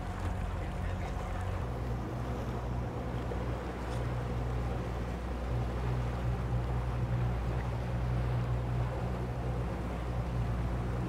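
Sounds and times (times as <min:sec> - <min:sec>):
boat engine running: 0:00.0 - 0:11.0
water noise: 0:00.0 - 0:11.0
wind: 0:00.0 - 0:11.0.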